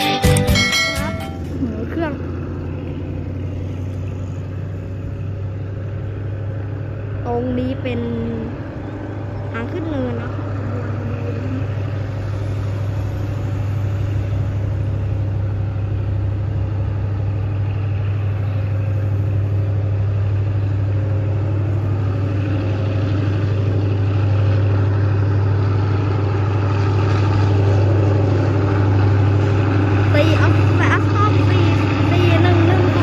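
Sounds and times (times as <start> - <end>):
locomotive engine humming: 0.0 - 33.0.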